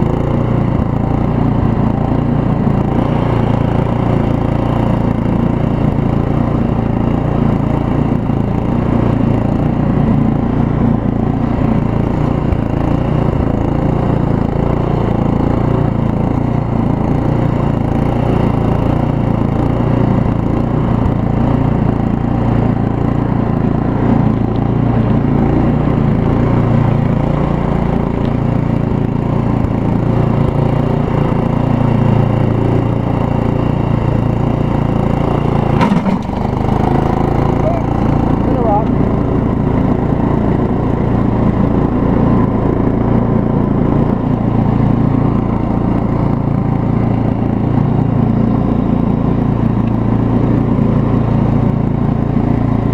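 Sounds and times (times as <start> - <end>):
riding mower engine drone: 0.0 - 52.9.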